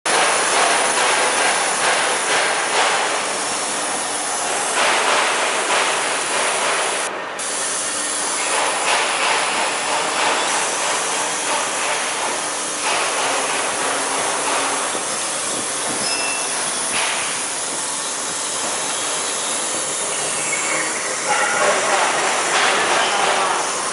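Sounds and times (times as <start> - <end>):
foam cutting machine running: 0.1 - 23.9.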